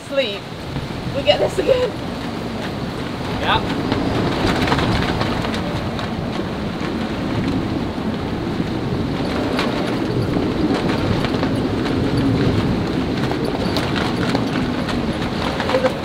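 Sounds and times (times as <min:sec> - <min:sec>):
sea waves breaking: 0:00.0 - 0:16.0
strong wind rushing: 0:00.0 - 0:16.0.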